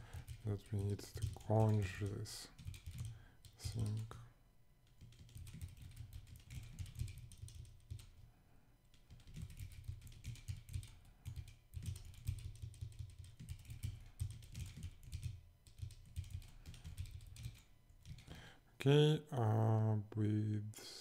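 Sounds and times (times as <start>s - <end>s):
typing on computer keyboard: 0.0s - 4.2s, 4.8s - 8.2s, 8.9s - 18.4s.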